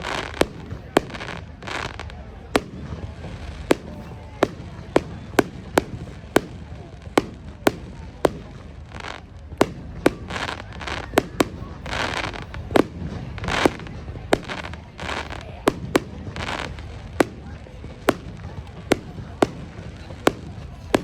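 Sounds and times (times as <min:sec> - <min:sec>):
fireworks banging: 0:00.0 - 0:21.0
fireworks hissing: 0:00.0 - 0:21.0.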